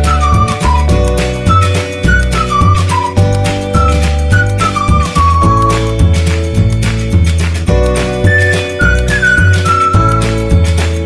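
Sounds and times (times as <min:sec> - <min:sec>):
melody over bass and beat: 0:00.0 - 0:11.0.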